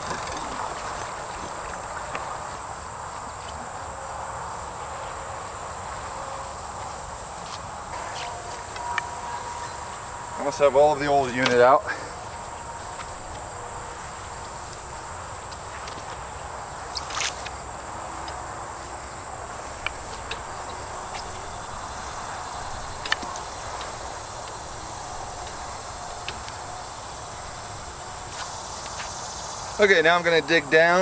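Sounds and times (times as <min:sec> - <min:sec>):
insects calling: 0:00.0 - 0:31.0.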